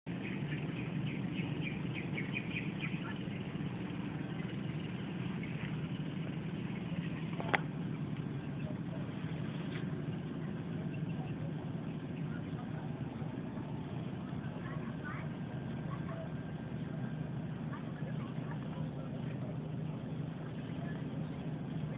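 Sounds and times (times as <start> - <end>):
low mechanical hum: 0.1 - 21.9
small birds chirping: 0.1 - 21.9.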